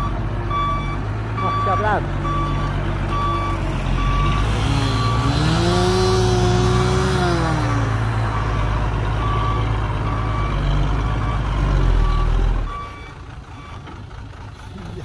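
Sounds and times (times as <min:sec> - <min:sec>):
diesel engine working hard: 0:00.0 - 0:15.0
truck reversing alarm beeping: 0:00.0 - 0:15.0.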